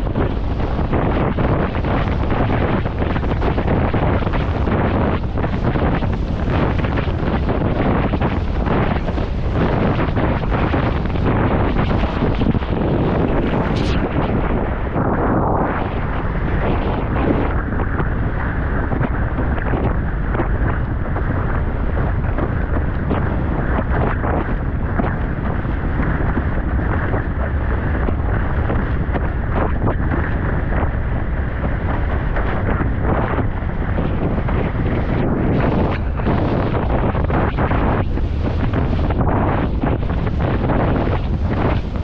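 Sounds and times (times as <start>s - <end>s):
water rushing under board: 0.0s - 42.0s
wind buffeting microphone: 0.0s - 42.0s.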